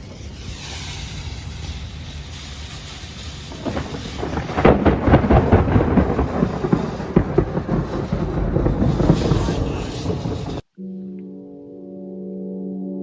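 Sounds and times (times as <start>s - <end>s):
thunder rumbling and crackling: 0.0s - 10.6s.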